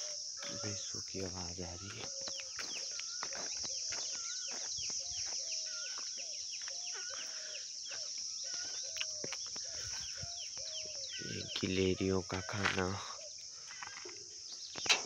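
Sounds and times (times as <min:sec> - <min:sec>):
many birds chirping: 0:00.0 - 0:15.0.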